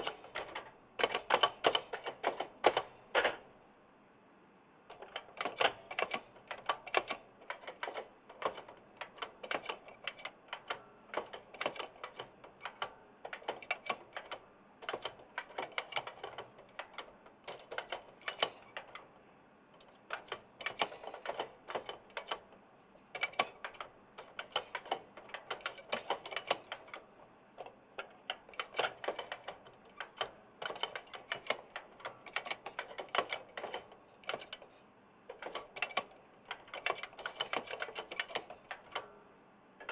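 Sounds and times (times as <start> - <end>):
fast typing on clicky keyboard: 0.0 - 2.9, 5.0 - 19.0, 20.1 - 22.4, 23.2 - 27.0, 28.3 - 34.6, 35.4 - 39.0.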